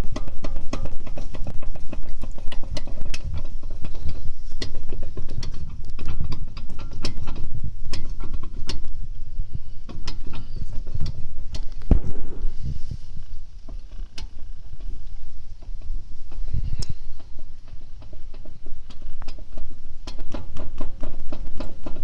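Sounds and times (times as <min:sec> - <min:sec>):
wheel bearing clicking and knocking: 0:00.0 - 0:12.2, 0:13.6 - 0:22.0
low rumble: 0:00.0 - 0:20.1.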